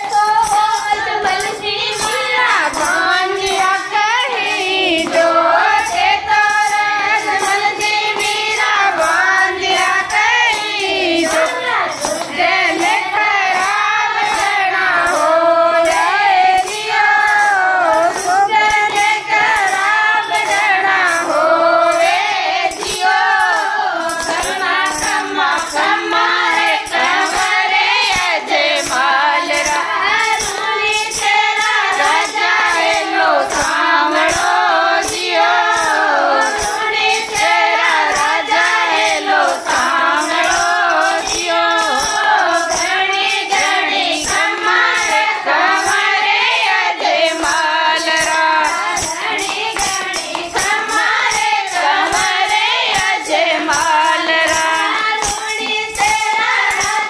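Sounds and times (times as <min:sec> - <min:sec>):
hand claps: 0:00.0 - 0:57.0
jingling percussion: 0:00.0 - 0:57.0
women singing together: 0:00.0 - 0:57.0.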